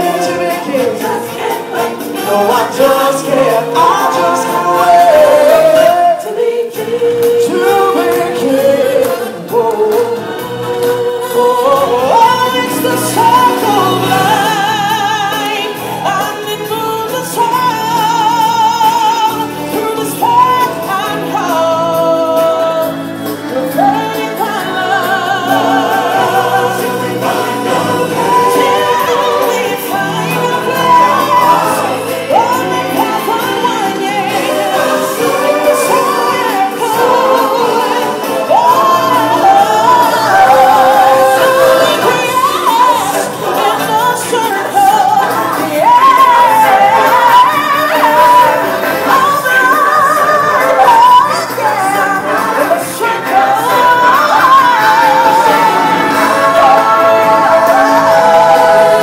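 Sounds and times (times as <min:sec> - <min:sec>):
musical accompaniment: 0:00.0 - 0:59.0
person singing with vibrato: 0:00.0 - 0:59.0.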